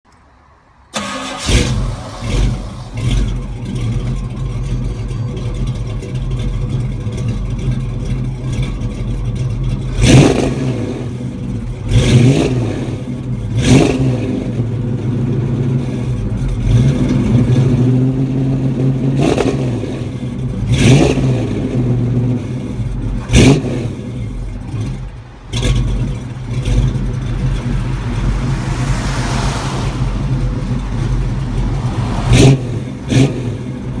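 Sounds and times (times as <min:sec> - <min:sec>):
car engine idling and revving: 0:00.1 - 0:34.0.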